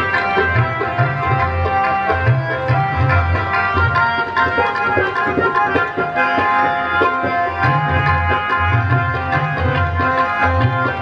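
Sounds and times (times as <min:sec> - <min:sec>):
harmonium held notes: 0:00.0 - 0:11.0
tabla playing: 0:00.0 - 0:11.0.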